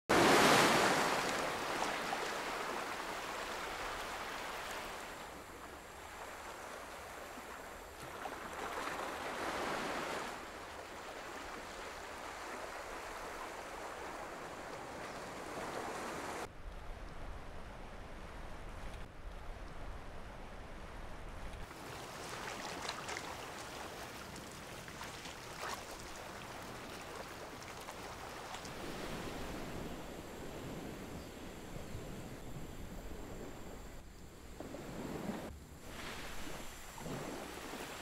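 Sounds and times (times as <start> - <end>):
ocean surf on beach: 0.1 - 16.5, 21.6 - 38.0.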